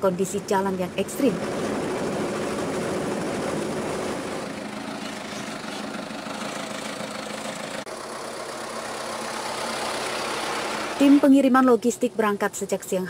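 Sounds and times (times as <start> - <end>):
road and rattle noise: 0.0 - 13.0
truck engine running: 0.0 - 13.0.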